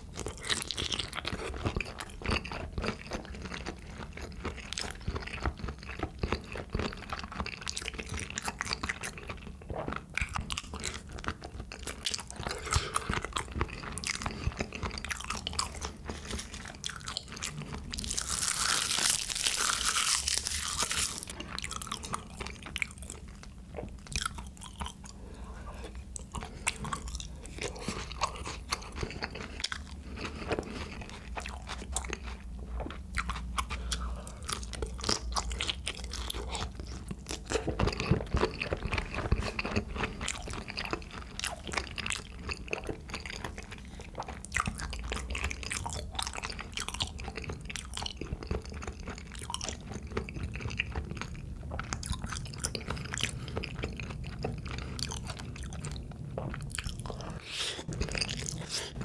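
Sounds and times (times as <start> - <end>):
wet chewing and crunching: 0.0 - 59.0.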